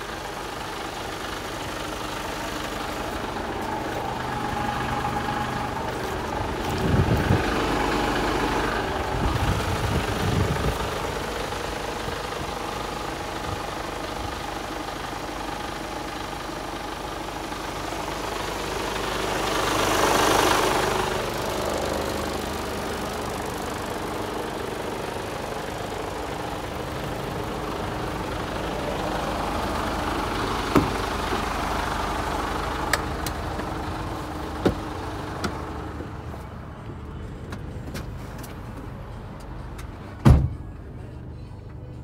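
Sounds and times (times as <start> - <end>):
diesel truck engine idling: 0.0 - 42.0.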